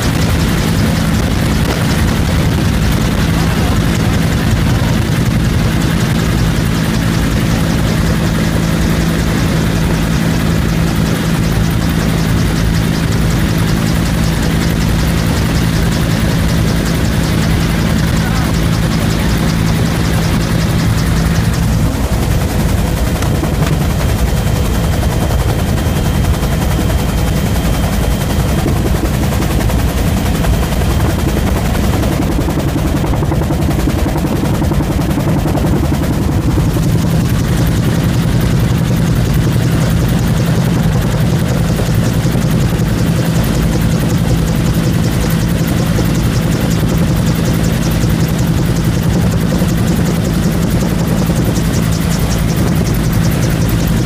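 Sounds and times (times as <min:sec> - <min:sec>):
helicopter turbine and rotor beat: 0:00.0 - 0:54.0.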